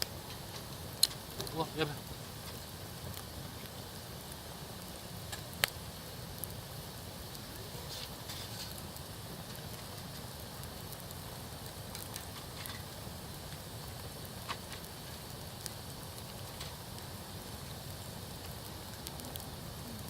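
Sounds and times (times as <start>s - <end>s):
campfire crackling and popping: 0.0s - 20.0s
fire low hiss: 0.0s - 20.0s.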